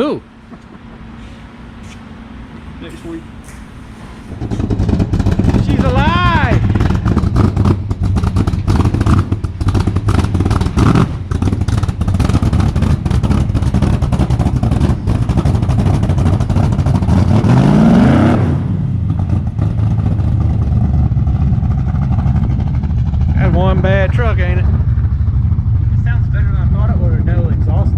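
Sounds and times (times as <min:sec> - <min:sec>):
truck engine idling and revving: 0:00.0 - 0:27.9.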